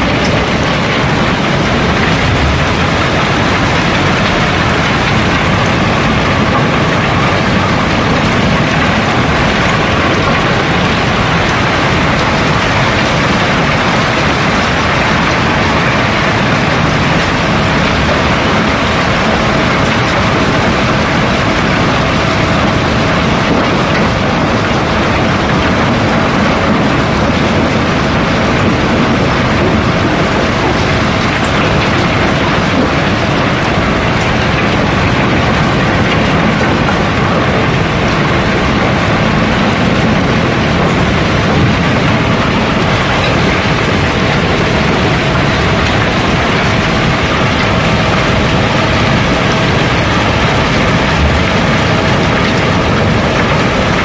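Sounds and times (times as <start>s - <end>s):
cobblestones clattering down a chute: 0.0s - 54.0s.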